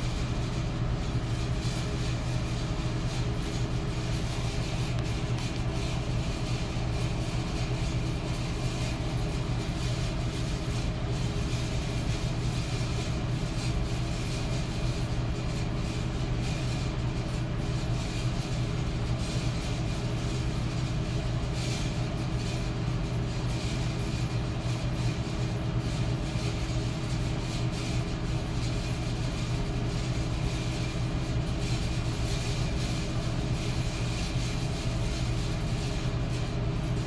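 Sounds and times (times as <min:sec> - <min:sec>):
electric fan running: 0:00.0 - 0:37.0.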